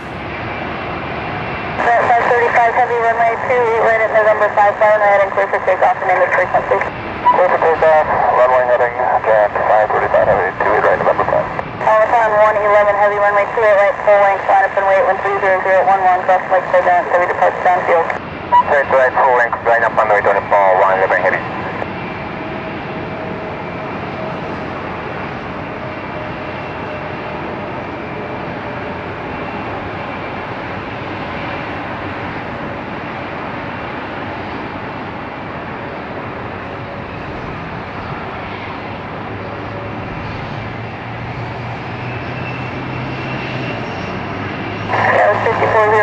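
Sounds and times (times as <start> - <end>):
jet engines rushing with whine: 0.0 - 46.0.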